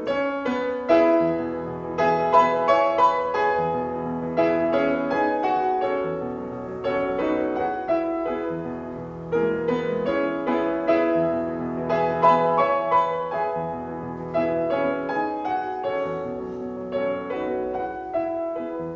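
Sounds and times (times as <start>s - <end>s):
gentle piano music: 0.0s - 18.9s.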